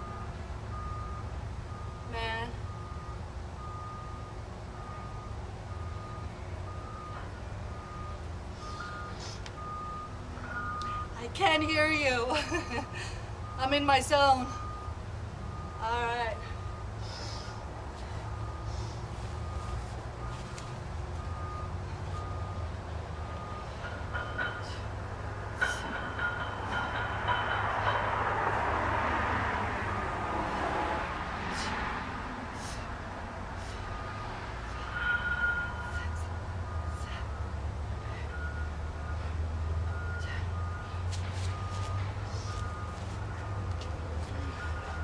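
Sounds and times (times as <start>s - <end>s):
reversing alarm beeping: 0.0s - 30.0s, 33.6s - 45.0s.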